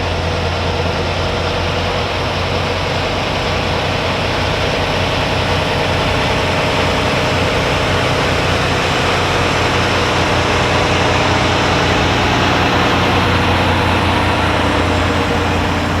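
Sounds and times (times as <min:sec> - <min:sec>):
diesel truck engine running: 0:00.0 - 0:16.0
road noise: 0:00.0 - 0:16.0.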